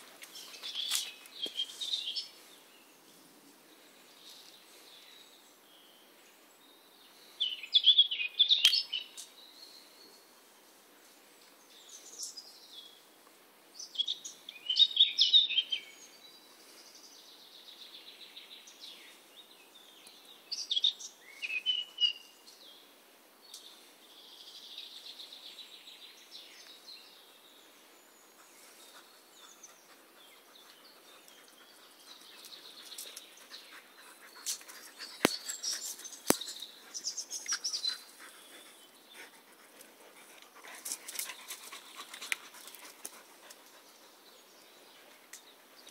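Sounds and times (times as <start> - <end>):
songbirds singing: 0.0 - 10.7, 11.3 - 45.9.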